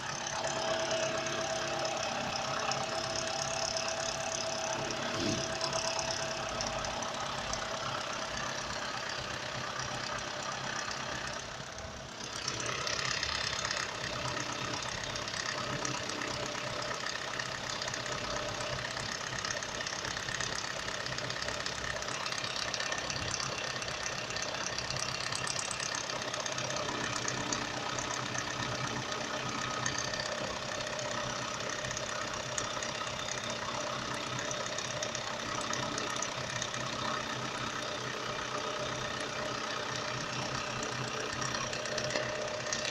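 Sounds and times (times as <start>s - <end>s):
car engine running with a knock: 0.0s - 42.9s.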